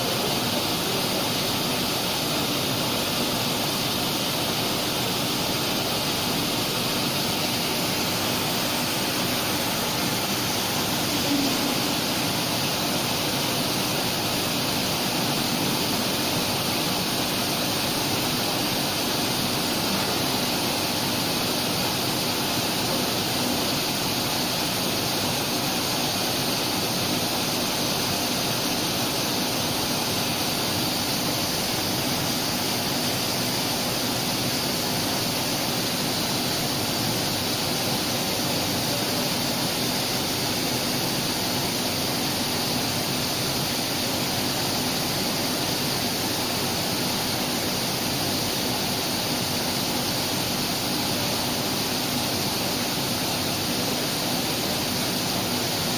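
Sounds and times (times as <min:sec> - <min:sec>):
grinding machine rushing hiss: 0:00.0 - 0:55.9.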